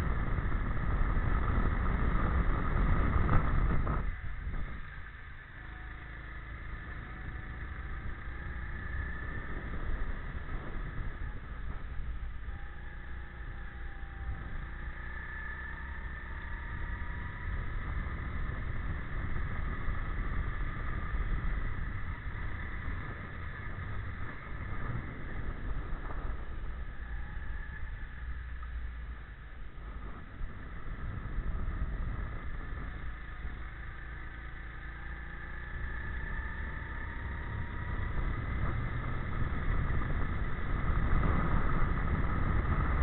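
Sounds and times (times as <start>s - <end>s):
go-kart engine whine: 0.0s - 43.0s
wind rumble on microphone: 0.0s - 43.0s.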